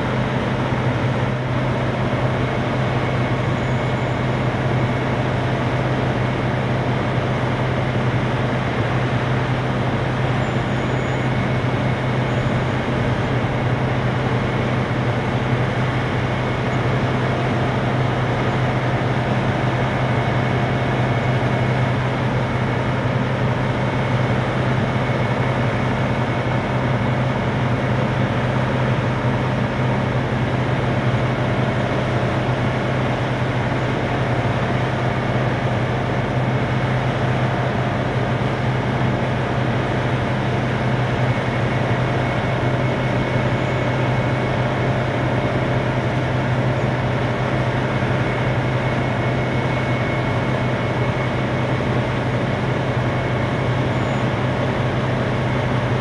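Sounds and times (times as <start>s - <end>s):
diesel engine low drone: 0.0s - 56.0s.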